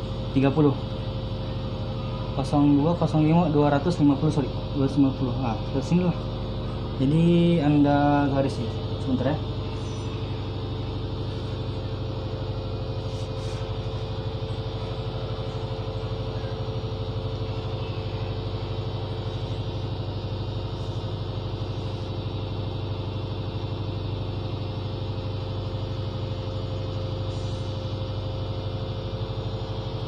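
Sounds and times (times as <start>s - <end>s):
engine droning: 0.0s - 30.0s
steady whine: 0.0s - 30.0s.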